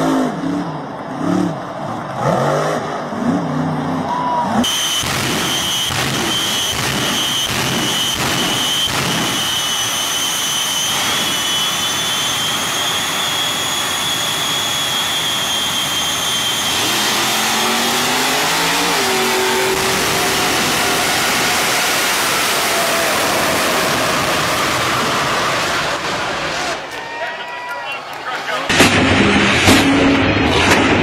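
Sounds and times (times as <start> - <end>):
jet engine roar: 0.0 - 31.0
high steady jet whine: 4.6 - 31.0.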